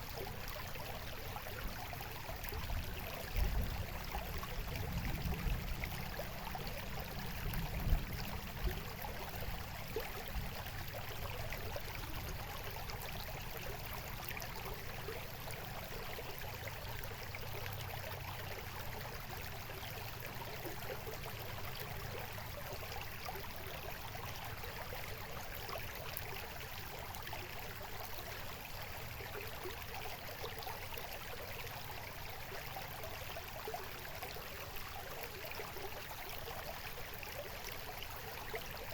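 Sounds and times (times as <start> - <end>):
stream trickling and splashing: 0.0 - 38.9.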